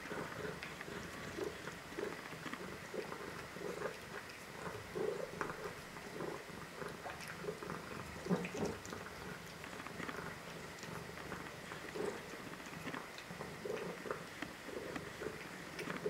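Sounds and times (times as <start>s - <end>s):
cat chewing and smacking: 0.0s - 16.0s
cat purring: 0.0s - 16.0s.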